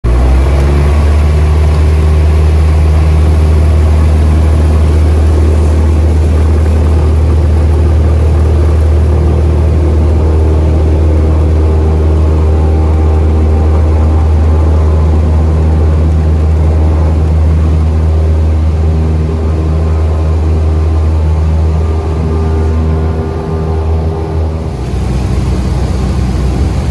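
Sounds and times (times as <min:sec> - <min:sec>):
propeller plane engine drone: 0:00.0 - 0:26.9.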